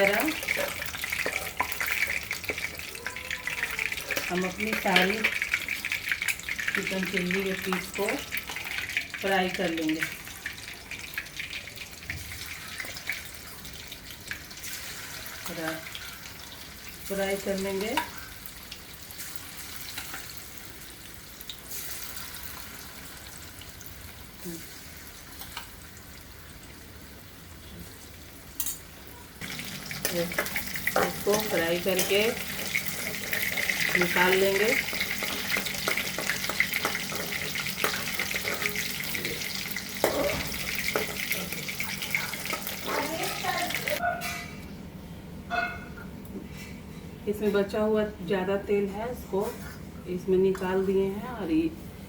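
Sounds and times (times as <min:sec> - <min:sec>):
chicken deep-frying in oil: 0:00.0 - 0:44.1.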